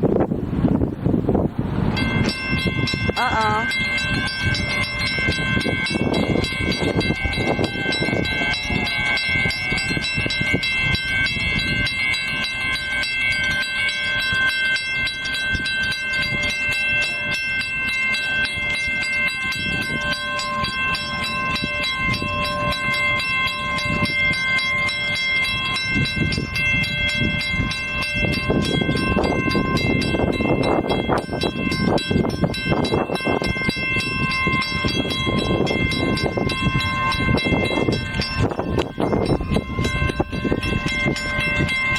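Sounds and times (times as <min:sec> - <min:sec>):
electric train rumbling: 0:00.0 - 0:41.9
high-pitched train tones: 0:01.9 - 0:41.9.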